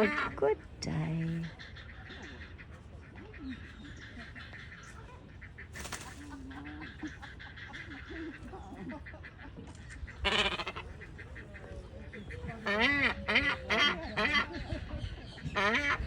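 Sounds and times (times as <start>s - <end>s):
wading birds calling: 0.0s - 16.0s.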